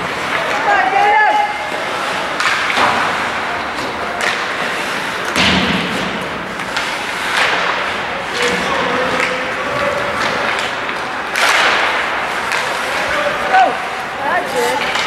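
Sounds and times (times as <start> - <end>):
hockey sticks and puck clacking: 0.0 - 15.0.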